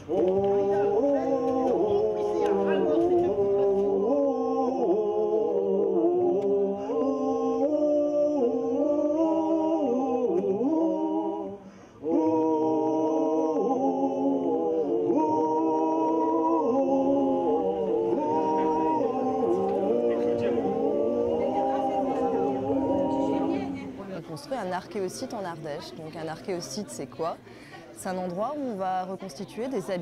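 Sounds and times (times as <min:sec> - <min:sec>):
group singing a cappella: 0:00.0 - 0:27.0.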